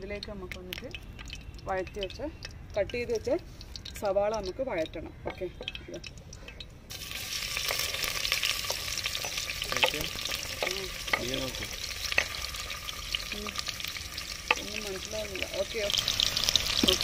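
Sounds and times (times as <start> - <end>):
onions sizzling in oil: 0.0 - 6.2, 6.9 - 17.0.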